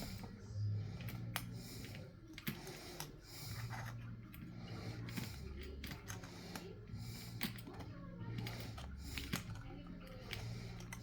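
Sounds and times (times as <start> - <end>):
light clicks and taps: 1.0 - 11.0.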